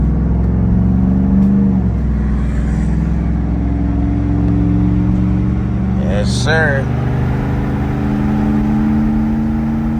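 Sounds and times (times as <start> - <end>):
car engine running: 0.0 - 9.9.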